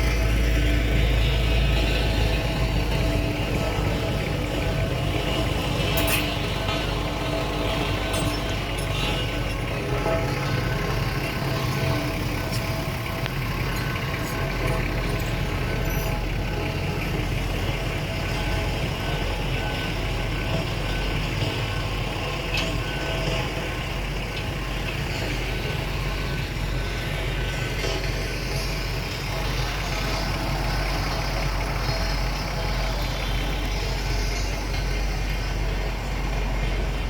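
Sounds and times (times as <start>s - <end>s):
road roller diesel engine rumble: 0.0s - 37.0s.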